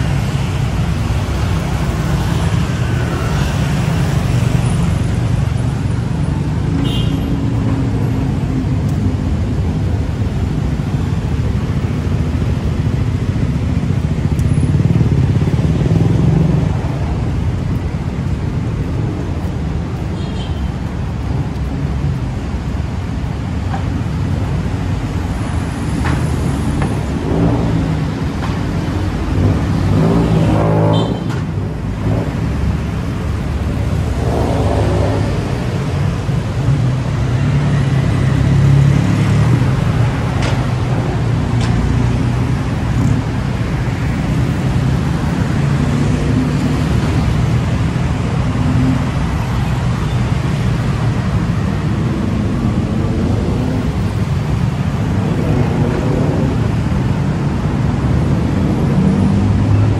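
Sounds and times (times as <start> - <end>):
motor engines rumbling: 0.0 - 59.9.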